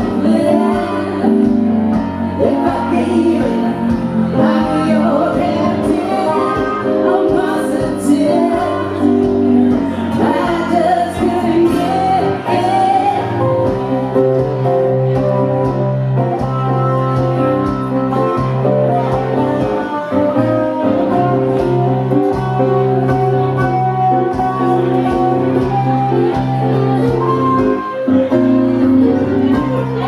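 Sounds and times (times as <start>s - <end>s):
acoustic guitar: 0.0s - 30.0s
keyboard chords: 0.0s - 30.0s.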